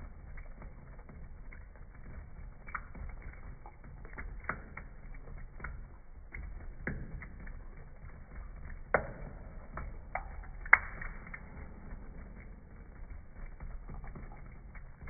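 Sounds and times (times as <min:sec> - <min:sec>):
tap water into metal sink: 0:00.0 - 0:15.0
cat lapping water: 0:00.1 - 0:15.0.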